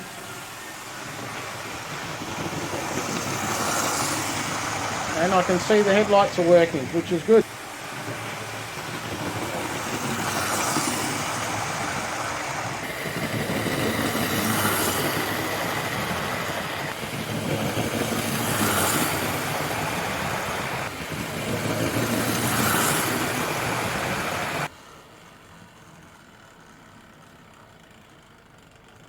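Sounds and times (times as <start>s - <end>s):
model train motor whirr: 0.0s - 27.9s
wheels rolling on rails: 0.0s - 29.0s.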